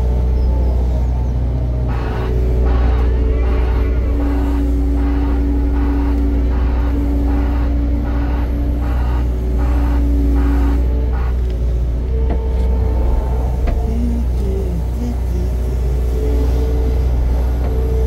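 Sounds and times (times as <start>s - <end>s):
large engine rumbling: 0.0s - 18.0s.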